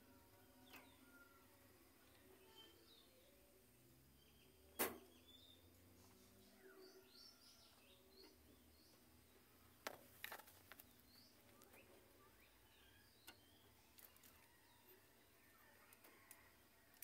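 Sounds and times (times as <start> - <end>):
faint bird chirps: 0.0 - 9.8, 10.8 - 16.6.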